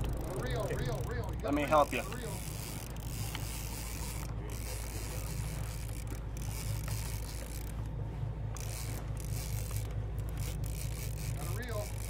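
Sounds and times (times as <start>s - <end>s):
boat engine drone: 0.0s - 12.0s
sea noise: 0.0s - 12.0s.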